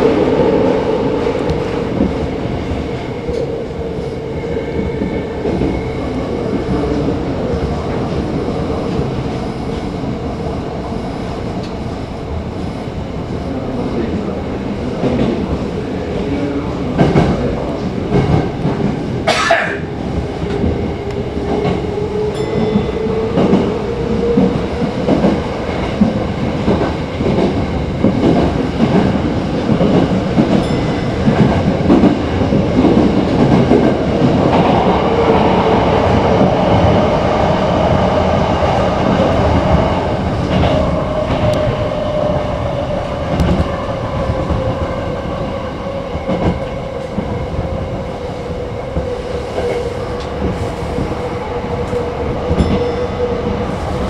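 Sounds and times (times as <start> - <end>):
rail rumble: 0.0 - 54.0.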